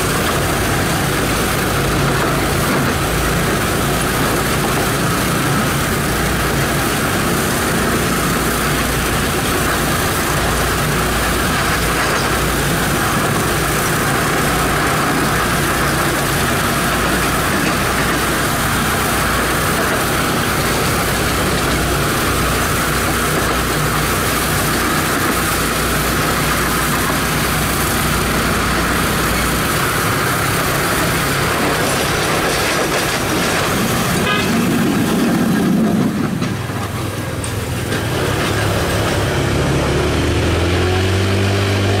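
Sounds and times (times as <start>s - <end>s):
trolley wheels on rails: 0.0s - 42.0s.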